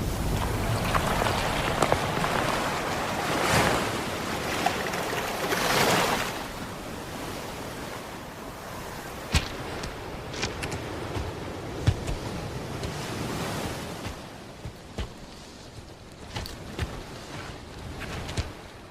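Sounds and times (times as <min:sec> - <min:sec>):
surf rushing: 0:00.0 - 0:18.9
wind: 0:00.0 - 0:18.9.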